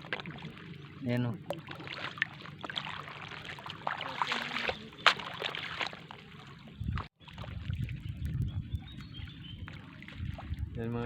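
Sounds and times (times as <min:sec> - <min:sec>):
seawater sloshing and splashing: 0:00.0 - 0:08.2, 0:08.9 - 0:11.0.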